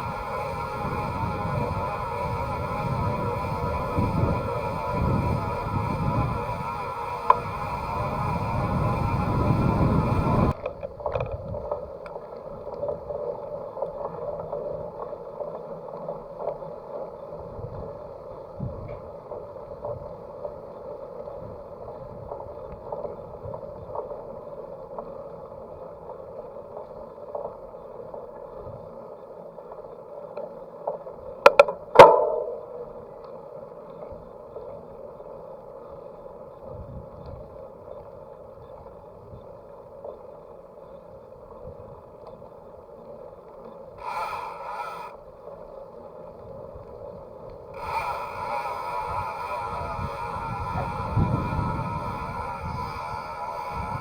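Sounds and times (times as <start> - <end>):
bicycle rolling: 0.0 - 54.0
faint ticks: 0.0 - 54.0.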